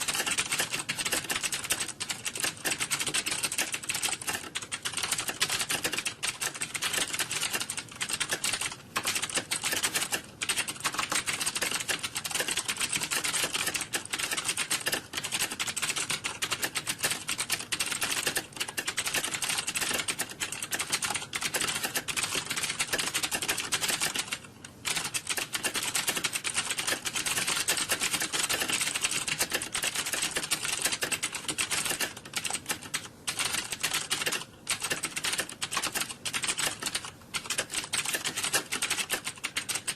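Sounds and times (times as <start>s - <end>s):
fast typing on computer keyboard: 0.0s - 39.9s.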